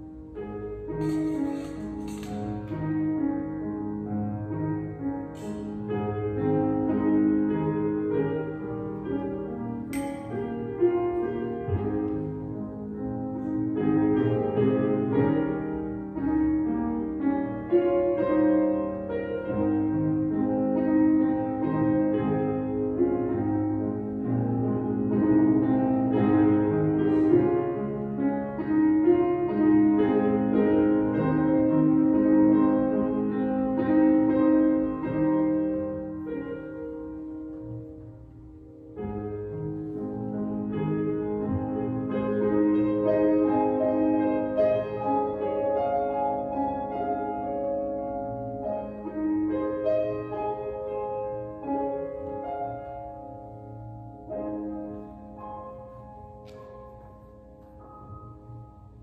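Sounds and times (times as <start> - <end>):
slow keyboard music: 0.0 - 59.0.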